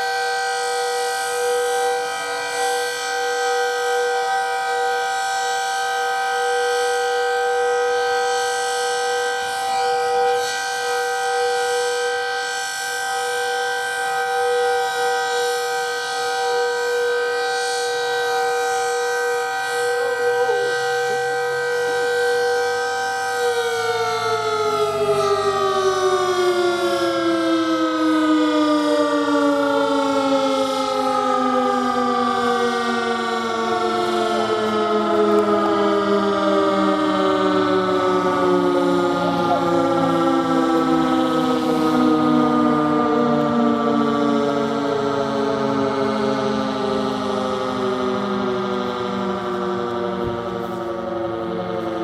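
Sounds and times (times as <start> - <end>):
warning siren two-note wail: 0.0 - 52.0.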